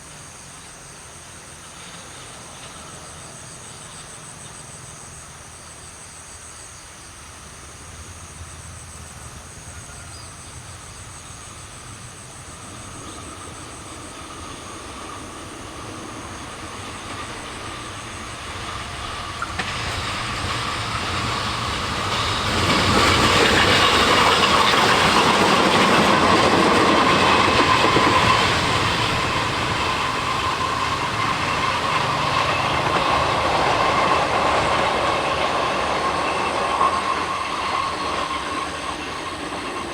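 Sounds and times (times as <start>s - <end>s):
diesel locomotive engines: 0.0s - 39.9s
train wheels rolling on rails: 0.0s - 39.9s.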